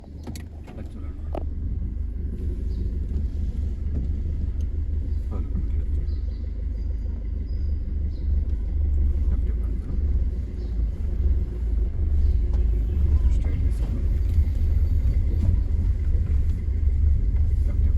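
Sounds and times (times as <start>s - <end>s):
car engine rumbling: 0.0s - 17.9s.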